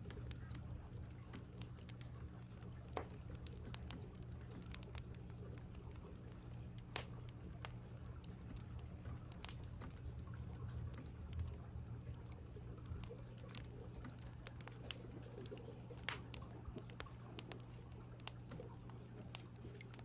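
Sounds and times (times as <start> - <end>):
firewood crackling: 0.0 - 20.0.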